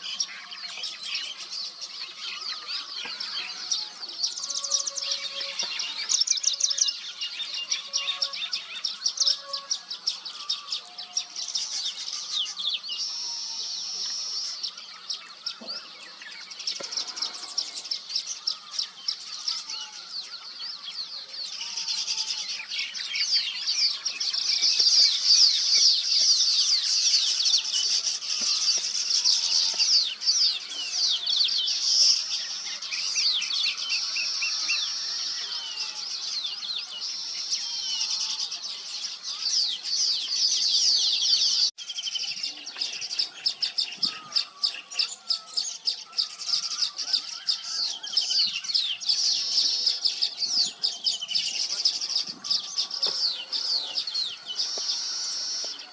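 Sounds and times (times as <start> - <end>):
birds chirping and trilling: 0.0 - 55.9.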